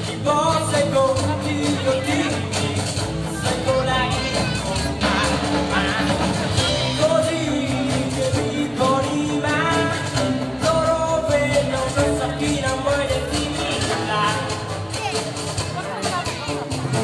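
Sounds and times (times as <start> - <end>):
young man singing: 0.0 - 15.0
live band playing: 0.0 - 17.0.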